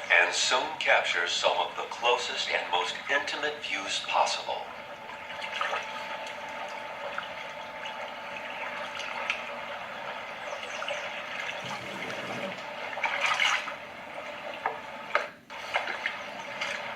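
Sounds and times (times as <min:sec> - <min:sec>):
sea water lapping: 0:00.0 - 0:16.9.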